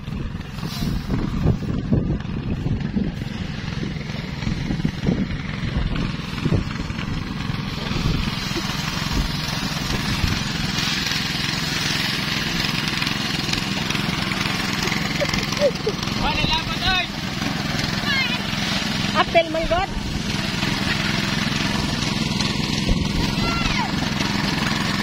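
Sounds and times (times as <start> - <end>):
thresher engine drone: 0.0 - 25.0
rushing hiss of threshing: 0.3 - 25.0.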